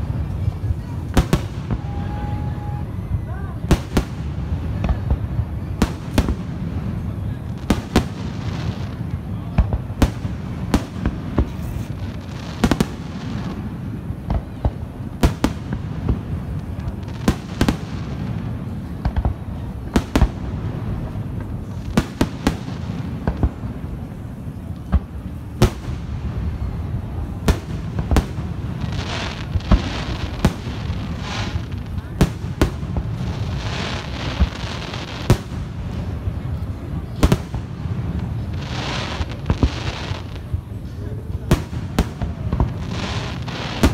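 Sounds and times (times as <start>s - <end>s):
fireworks bursting: 0.0s - 43.9s.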